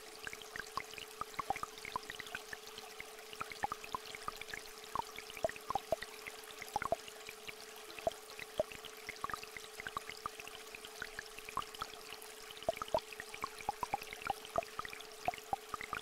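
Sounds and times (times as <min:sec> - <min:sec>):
stream trickling: 0:00.0 - 0:16.0.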